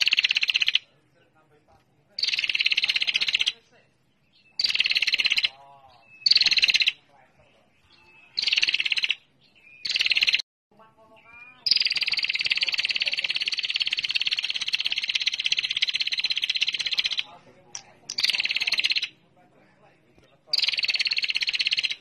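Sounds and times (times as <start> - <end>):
bird ticking trill: 0.0 - 1.0, 2.1 - 7.1, 7.7 - 10.4, 11.2 - 19.2, 20.2 - 22.0
faint low bird chirps: 2.1 - 10.4, 11.0 - 19.3, 20.2 - 22.0.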